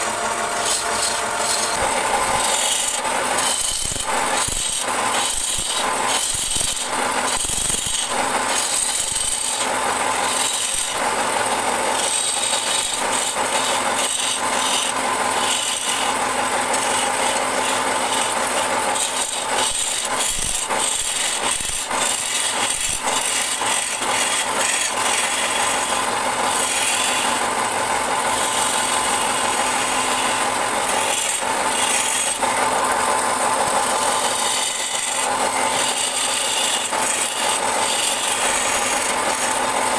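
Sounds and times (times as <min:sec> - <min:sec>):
wood lathe running: 0:00.0 - 0:39.9.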